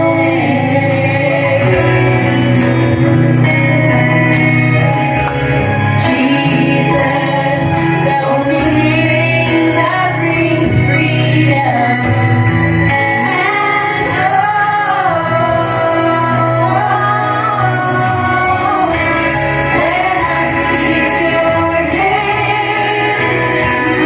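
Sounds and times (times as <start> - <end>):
woman singing worship song: 0.0 - 2.3, 5.9 - 24.0
instrumental accompaniment: 0.0 - 24.0.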